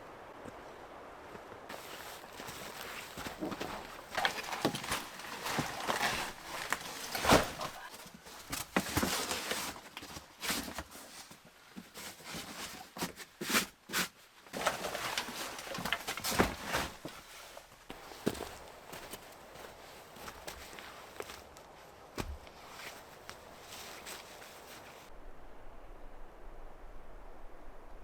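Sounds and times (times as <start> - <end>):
footsteps crunching in snow: 1.4 - 13.8, 14.6 - 25.1.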